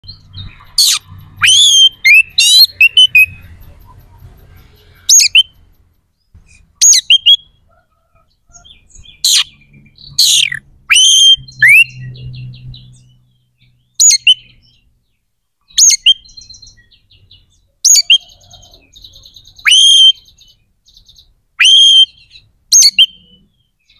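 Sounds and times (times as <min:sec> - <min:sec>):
songbird whistling song: 0:00.0 - 0:05.7, 0:06.5 - 0:14.9, 0:15.6 - 0:23.9.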